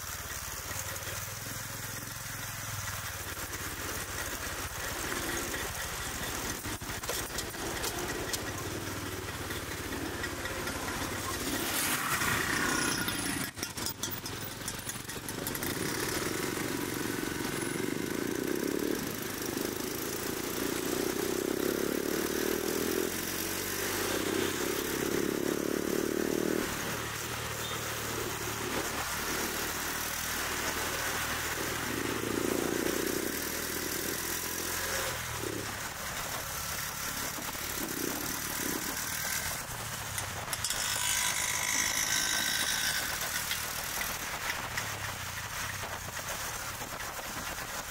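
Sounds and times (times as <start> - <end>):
motor scooters passing: 0.0 - 47.9
traffic hum: 0.0 - 47.9.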